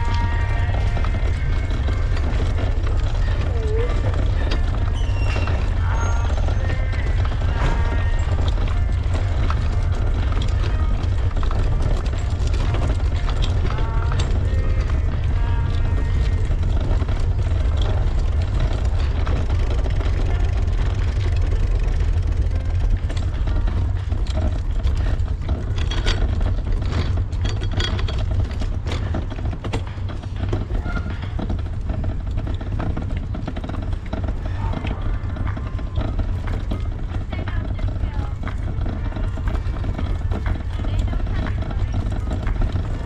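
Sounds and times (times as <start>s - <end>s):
wind and road rumble: 0.0s - 43.0s.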